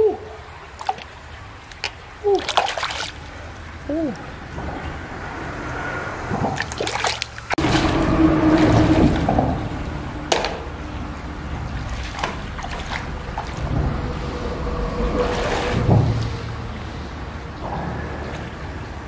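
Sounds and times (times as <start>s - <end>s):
stream running: 0.0s - 19.0s
water sloshing and splashing: 0.0s - 19.0s.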